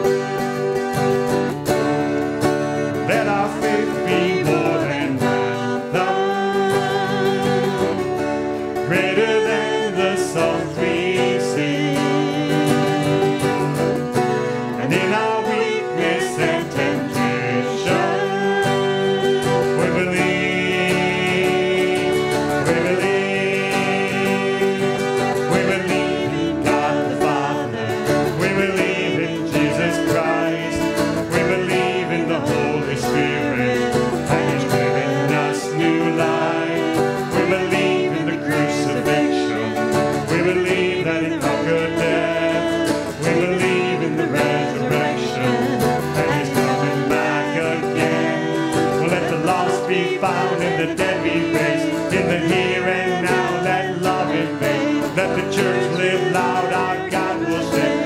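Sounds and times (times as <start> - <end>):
strummed acoustic guitar: 0.0 - 58.0
woman and man singing: 2.8 - 58.0.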